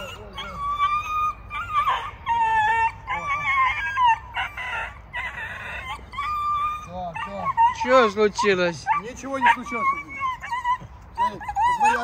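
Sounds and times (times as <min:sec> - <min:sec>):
dog squealing: 0:00.0 - 0:12.0.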